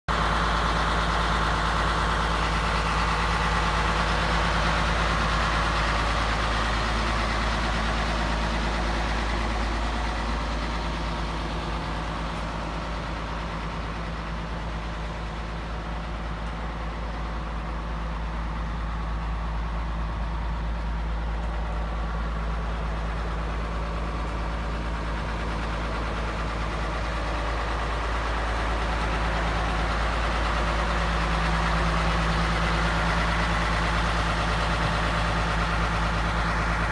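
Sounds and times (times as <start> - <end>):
diesel truck engine idling: 0.1 - 36.9.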